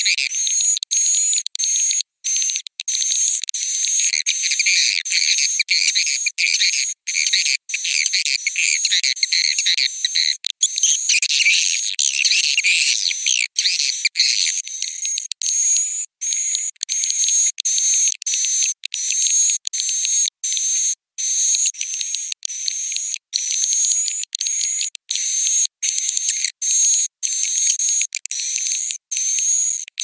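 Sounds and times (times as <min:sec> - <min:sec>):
swiftlets twittering and chirping: 0:00.0 - 0:29.8.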